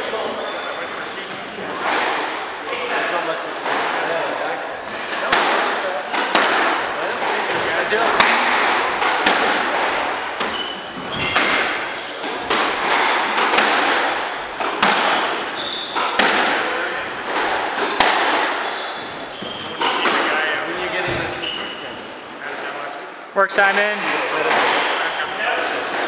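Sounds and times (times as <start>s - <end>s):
shoes squeaking on wooden floor: 0.0s - 2.1s, 2.8s - 22.2s
squash ball hitting rackets and walls: 0.0s - 22.8s, 23.7s - 26.0s.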